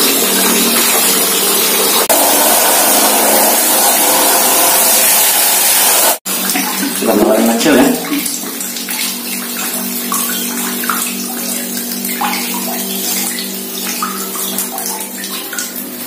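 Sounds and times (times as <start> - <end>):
steady hum: 0.0 - 16.0
water trickling from tap: 0.0 - 16.0.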